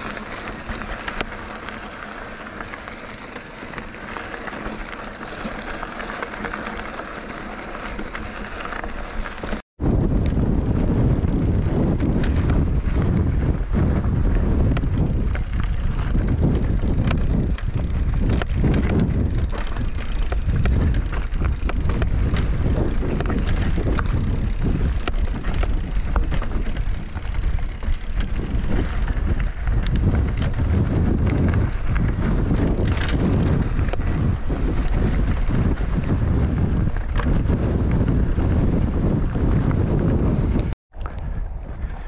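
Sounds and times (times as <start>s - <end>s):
bike clicks and knocks: 0.0s - 10.4s, 11.7s - 42.0s
wind buffeting microphone: 7.8s - 42.0s.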